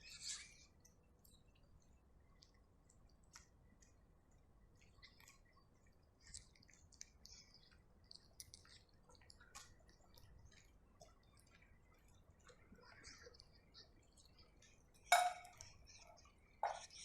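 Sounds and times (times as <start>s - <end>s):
cat chewing: 0.4s - 17.0s.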